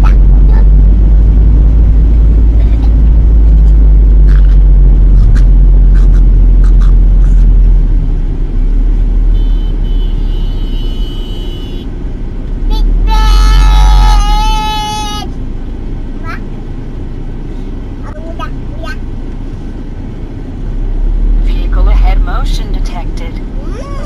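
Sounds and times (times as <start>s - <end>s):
car engine rumble and road noise: 0.0s - 24.0s.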